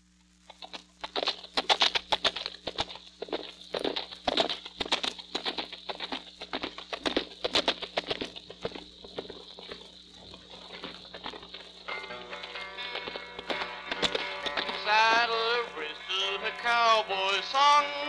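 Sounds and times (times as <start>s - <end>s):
record hum and hiss: 0.0s - 18.0s
galloping horse hoofbeats: 0.6s - 15.3s.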